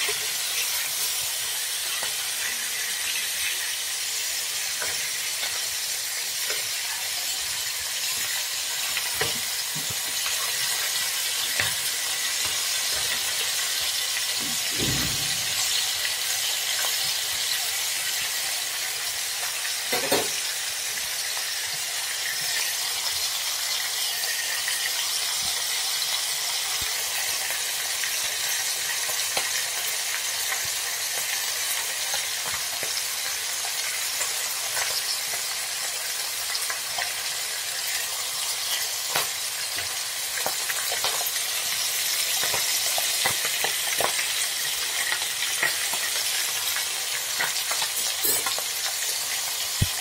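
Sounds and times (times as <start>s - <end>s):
fish frying in hot oil: 0.0s - 50.0s.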